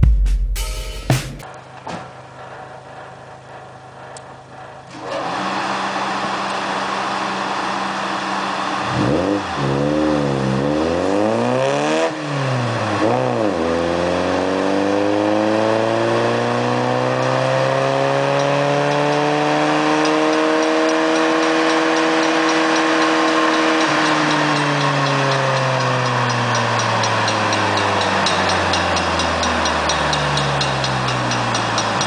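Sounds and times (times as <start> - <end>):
car engine revving: 5.2 - 32.0.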